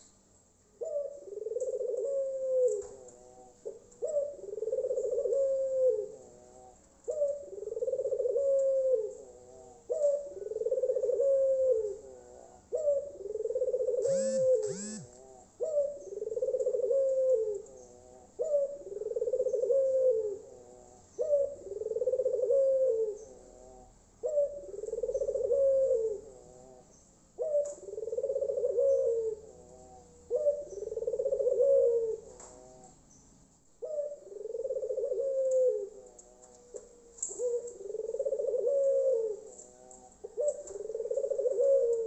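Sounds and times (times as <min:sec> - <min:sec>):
dove cooing: 0:00.7 - 0:33.0, 0:33.8 - 0:42.0.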